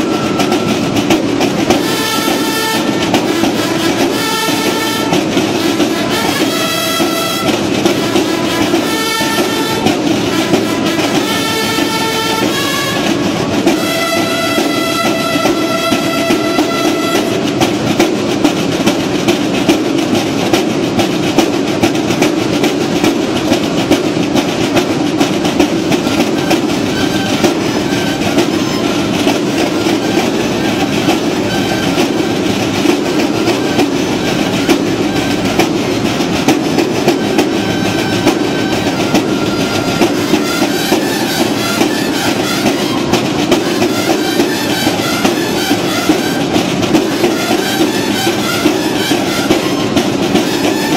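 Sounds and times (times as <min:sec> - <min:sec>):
brass notes: 0:00.0 - 0:17.8, 0:25.8 - 0:50.9
marching drums: 0:00.0 - 0:50.9.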